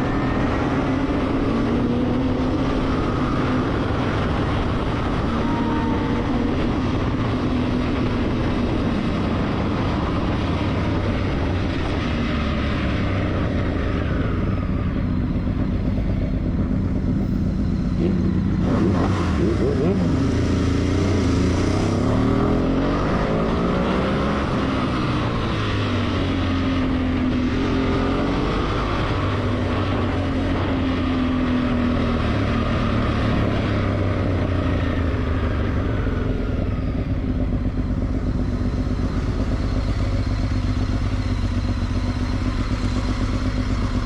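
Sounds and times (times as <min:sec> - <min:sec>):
constant low rumble: 0:00.0 - 0:44.0
motorcycle engine running: 0:00.0 - 0:44.0.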